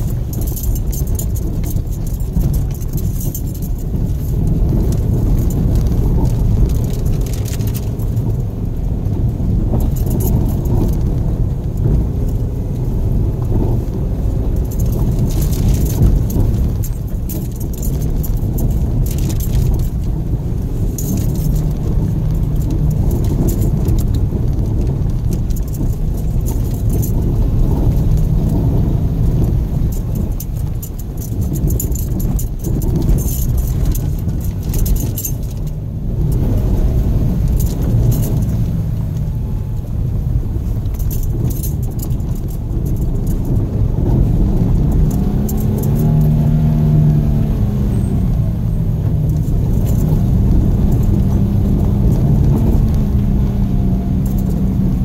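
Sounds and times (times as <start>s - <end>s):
tyre and engine rumble: 0.0s - 55.0s.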